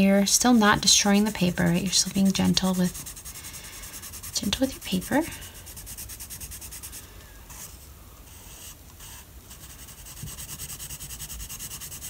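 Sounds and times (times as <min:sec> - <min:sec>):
pencil rasping on paper: 0:00.2 - 0:07.7, 0:08.3 - 0:12.0.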